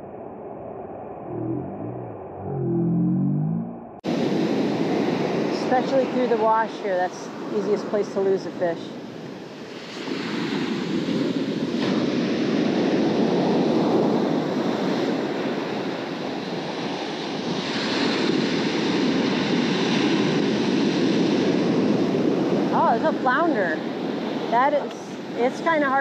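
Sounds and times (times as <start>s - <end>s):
ocean surf breaking on beach: 4.1s - 26.0s.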